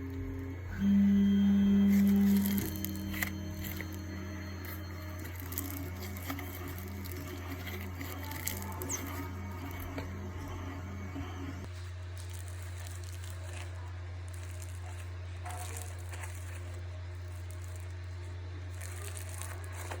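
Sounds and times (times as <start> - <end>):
steady low hum: 0.0 - 20.0
crinkly crackling of slime beads: 1.7 - 10.6, 11.6 - 20.0.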